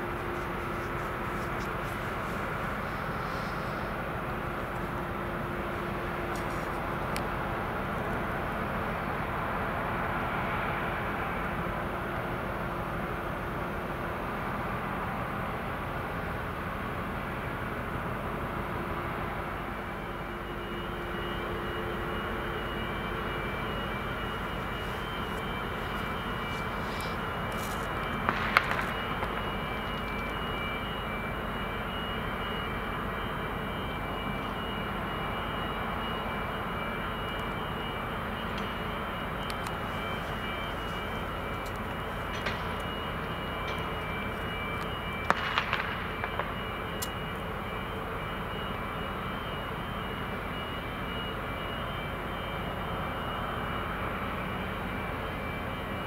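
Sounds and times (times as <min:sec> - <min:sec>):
faint high whine: 0:00.0 - 0:56.0
ship engines and ventilation fans: 0:00.0 - 0:56.0.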